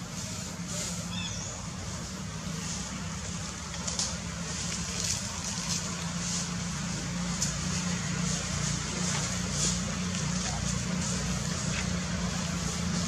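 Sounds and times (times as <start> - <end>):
faint hissing rustles: 0.0 - 13.0.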